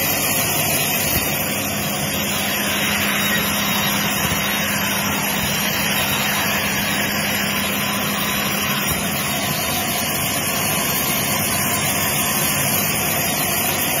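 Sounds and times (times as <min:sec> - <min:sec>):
band saw cutting log: 0:01.0 - 0:14.0.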